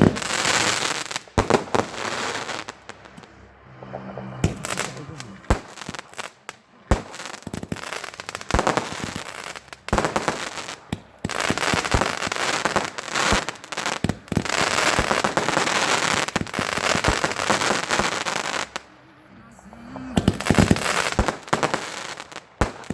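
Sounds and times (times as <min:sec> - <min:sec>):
fireworks bangs: 0:00.0 - 0:22.9
fireworks crackling: 0:00.0 - 0:22.9.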